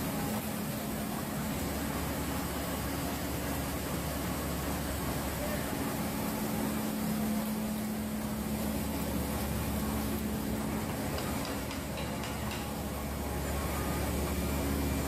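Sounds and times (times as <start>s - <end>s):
printing press humming: 0.0s - 15.0s.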